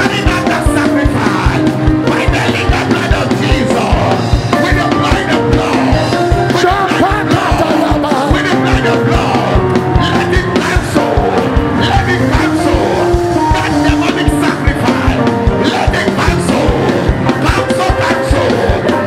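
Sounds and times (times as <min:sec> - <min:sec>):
church band music: 0:00.0 - 0:19.0.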